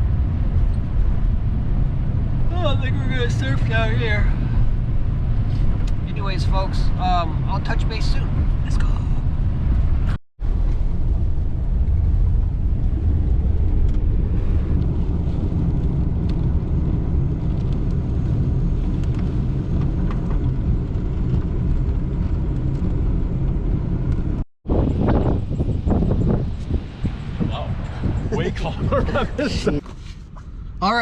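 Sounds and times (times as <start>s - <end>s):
vehicle engine and road rumble: 0.0s - 31.0s.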